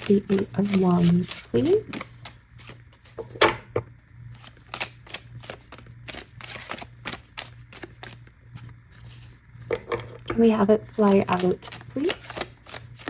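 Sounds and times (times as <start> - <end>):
cards being shuffled: 0.0 - 3.4, 4.3 - 10.3, 11.0 - 13.0.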